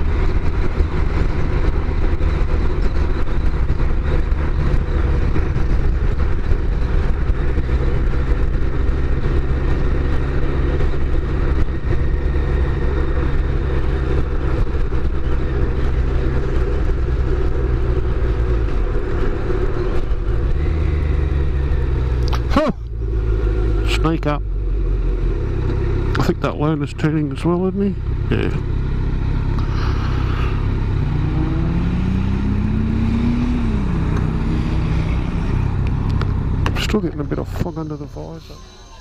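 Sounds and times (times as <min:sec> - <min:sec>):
motorcycle engine running: 0:00.0 - 0:39.0
wind and road noise: 0:00.0 - 0:39.0.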